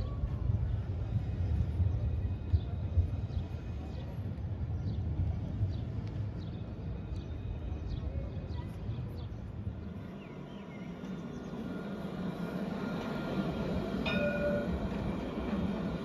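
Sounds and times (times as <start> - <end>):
street ambience: 0.0 - 16.0
tram electric whine: 0.0 - 16.0
tram rolling rumble: 0.0 - 16.0.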